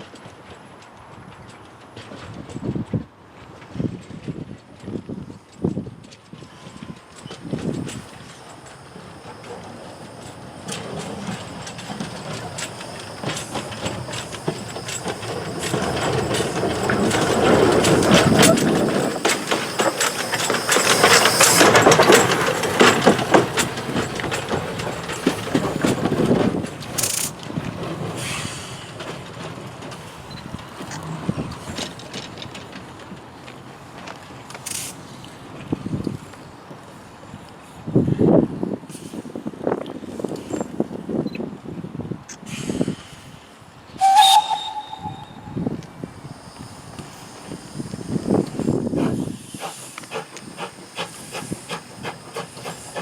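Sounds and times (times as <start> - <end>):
train passing with clanks: 0.0 - 53.0.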